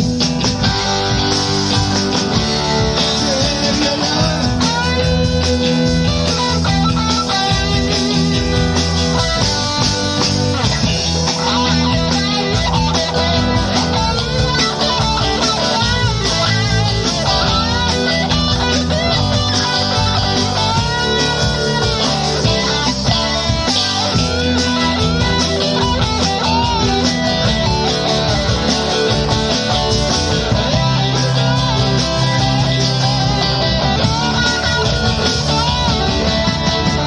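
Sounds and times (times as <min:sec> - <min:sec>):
bass guitar: 0:00.0 - 0:37.0
drum beat: 0:00.0 - 0:37.0
electric guitar lead: 0:00.0 - 0:37.0.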